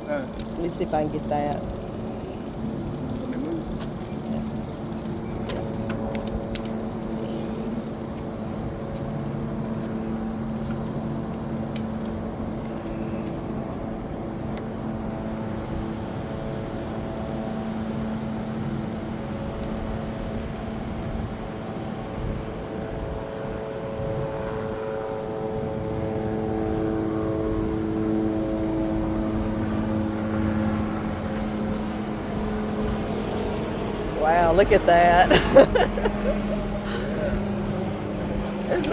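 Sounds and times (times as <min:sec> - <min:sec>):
engine drone: 0:00.0 - 0:20.9, 0:25.0 - 0:38.9.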